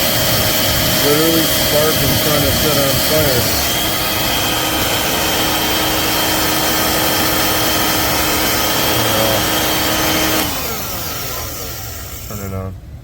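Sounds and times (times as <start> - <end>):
vacuum cleaner whining: 0.0 - 12.6.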